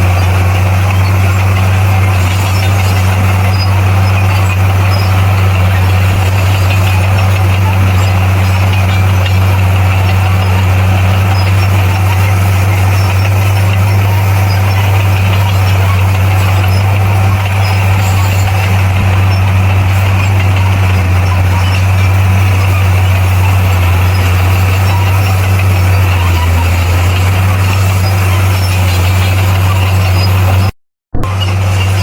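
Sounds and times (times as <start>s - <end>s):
diesel engine humming: 0.0s - 32.0s.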